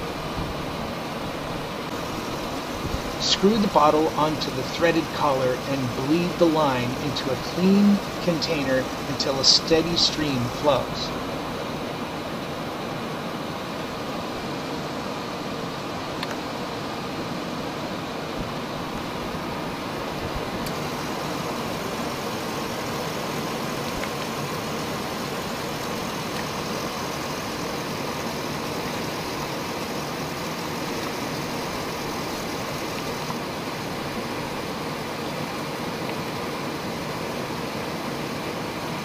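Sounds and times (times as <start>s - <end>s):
air conditioning hiss: 0.0s - 39.0s.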